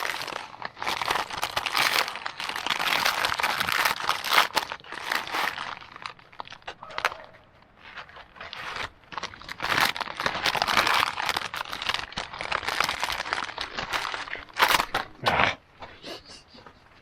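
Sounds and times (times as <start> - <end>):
crinkly rustling handling noise: 0.0 - 15.2.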